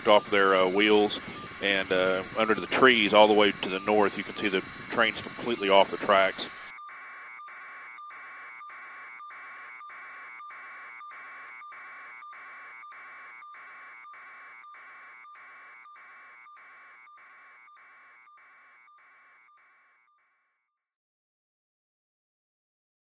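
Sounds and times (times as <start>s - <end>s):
pulsing electronic buzzing: 0.0s - 19.5s
thin steady tone: 0.0s - 19.5s.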